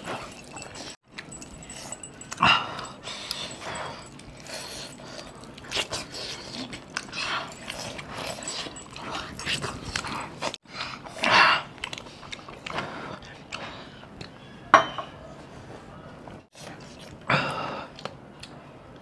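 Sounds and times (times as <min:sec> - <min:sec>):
people chewing and slurping: 0:00.0 - 0:14.7, 0:15.5 - 0:19.0.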